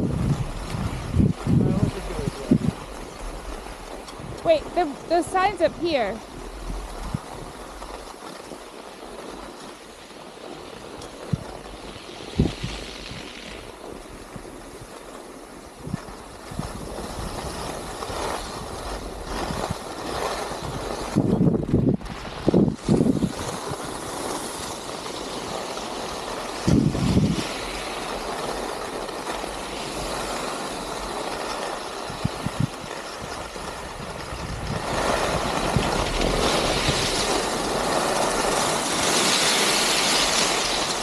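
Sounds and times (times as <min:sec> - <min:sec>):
skis running on snow: 0:00.0 - 0:41.0
wind on microphone: 0:00.0 - 0:41.0.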